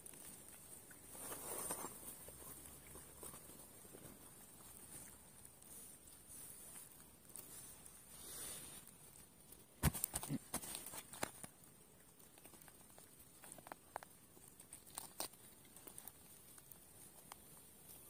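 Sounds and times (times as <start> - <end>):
small clicks and rustles of hands: 0.0 - 18.0.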